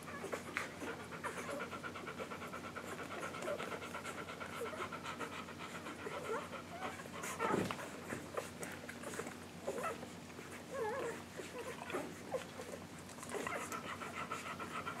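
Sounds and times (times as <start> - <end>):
dog panting: 0.0 - 15.0
puppies squeaking and whimpering: 2.8 - 15.0.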